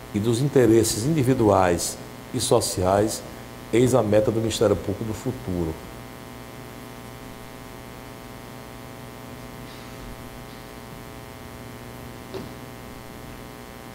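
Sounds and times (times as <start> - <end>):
electrical mains hum: 0.0 - 13.9
sound system hiss: 0.0 - 13.9.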